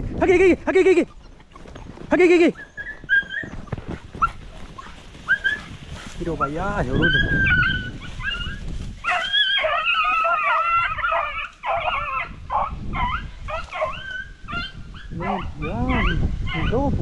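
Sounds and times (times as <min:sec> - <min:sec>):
beagles baying in high yelps: 0:00.8 - 0:17.0.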